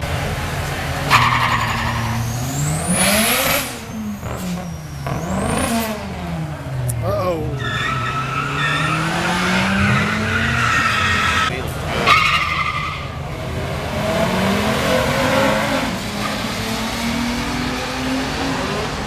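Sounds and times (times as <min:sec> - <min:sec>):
drag car engines accelerating: 0:00.0 - 0:19.0.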